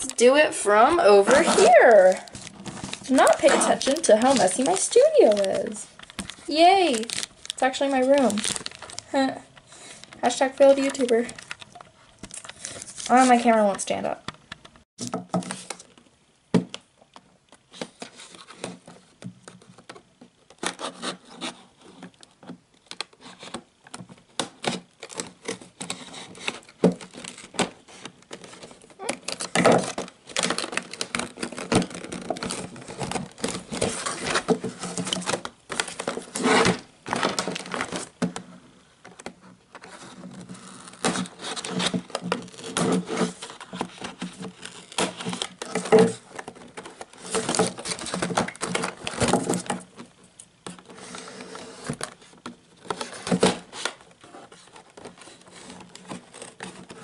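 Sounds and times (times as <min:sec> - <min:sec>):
packaging crinkling: 0:00.0 - 0:13.8, 0:17.6 - 0:38.4, 0:39.0 - 0:57.0.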